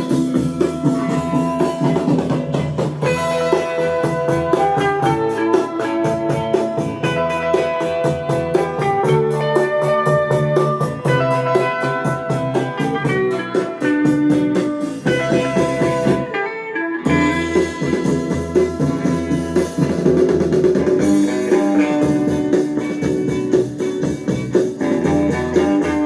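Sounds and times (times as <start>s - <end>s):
recorded music with guitar and drums: 0.0s - 26.0s.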